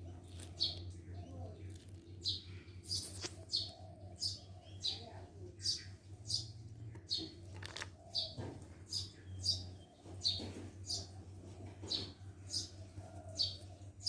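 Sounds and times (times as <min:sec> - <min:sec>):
small bird chirping: 0:00.0 - 0:11.2, 0:11.8 - 0:14.0
steady low hum: 0:00.0 - 0:14.0.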